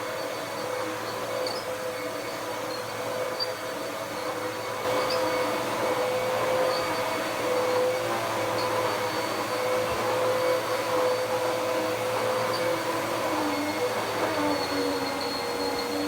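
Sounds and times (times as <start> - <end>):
upright vacuum cleaner running: 0.6 - 16.0.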